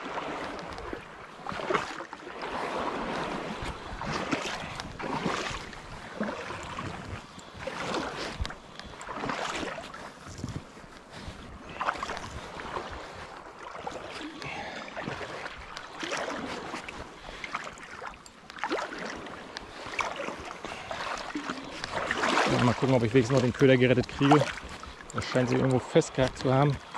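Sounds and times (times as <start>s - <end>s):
sea water splashing: 0.0s - 26.9s.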